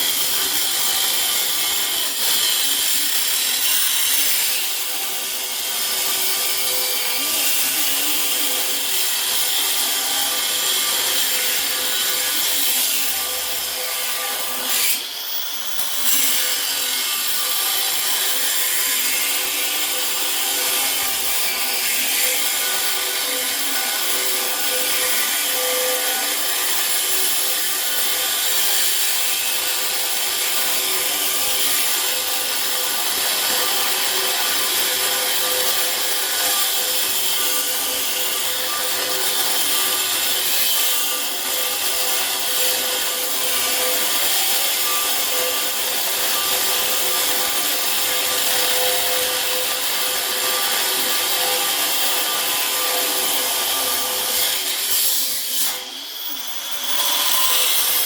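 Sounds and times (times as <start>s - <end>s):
power tool cutting into metal: 0.0s - 58.0s.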